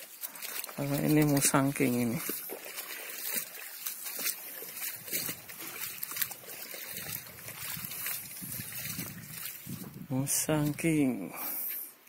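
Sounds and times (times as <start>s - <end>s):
footsteps: 0.0s - 12.0s
leaves rustling and crackling: 0.0s - 12.0s.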